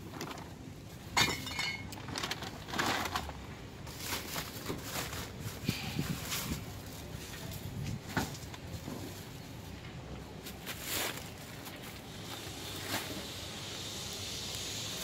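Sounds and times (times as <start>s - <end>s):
plastic grocery bags rustling: 0.0s - 9.8s, 10.4s - 13.3s.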